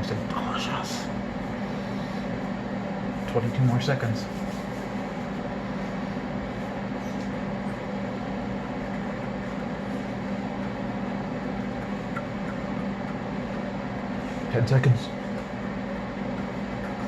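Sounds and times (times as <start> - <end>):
microwave fan whir: 0.0 - 17.0
microwave oven humming: 0.0 - 17.0.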